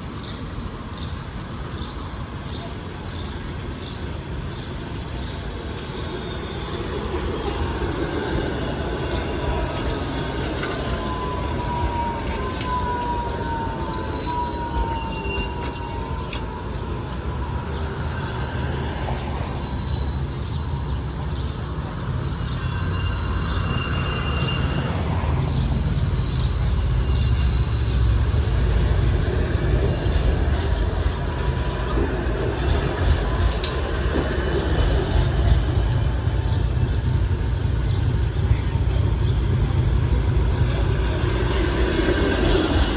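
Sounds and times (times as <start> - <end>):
streetcar rumbling on rails: 0.0 - 42.9
high wheel squeals: 5.3 - 42.9.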